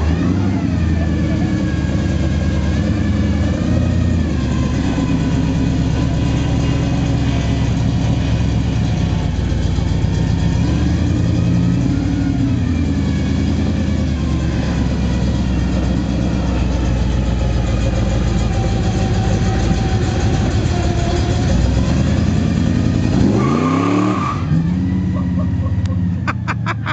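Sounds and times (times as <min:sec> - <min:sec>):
vee eight engine running: 0:00.0 - 0:26.9.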